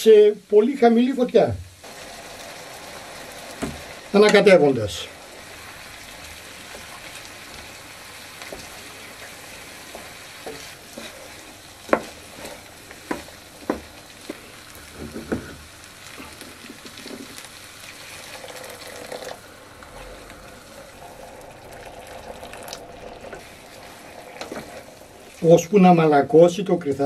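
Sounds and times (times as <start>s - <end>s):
pasta sizzling and simmering: 0.0s - 27.0s
wooden spoon stirring: 1.8s - 26.3s.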